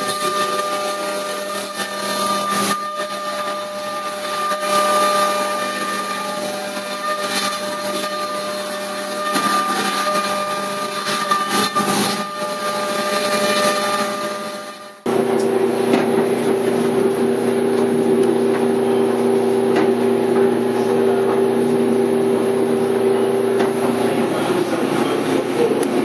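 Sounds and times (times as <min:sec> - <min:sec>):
milling cutter cutting: 0:00.0 - 0:26.0.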